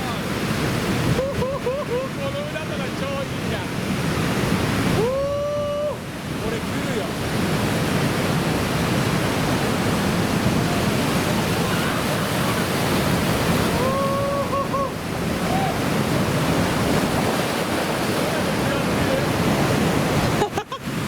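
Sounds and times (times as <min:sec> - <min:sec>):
surf breaking and rushing: 0:00.0 - 0:21.0
wind: 0:00.0 - 0:21.0.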